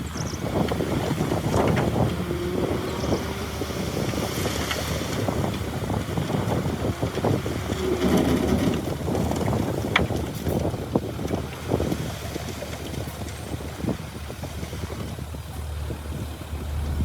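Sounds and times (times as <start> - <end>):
diesel engine running: 0.0 - 17.0
wind buffeting microphone: 0.0 - 17.0.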